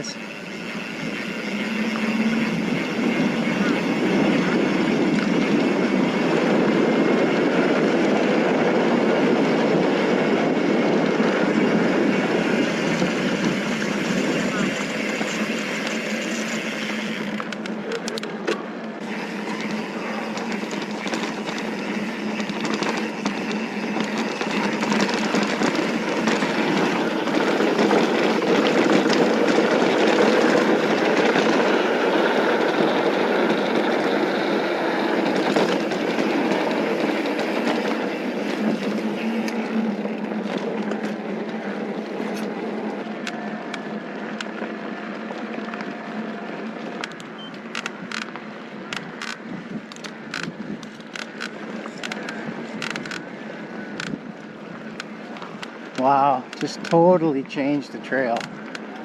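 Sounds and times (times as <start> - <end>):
bike rattles and clicks: 0.0 - 59.0
bike tyre and wind rush: 0.0 - 59.0.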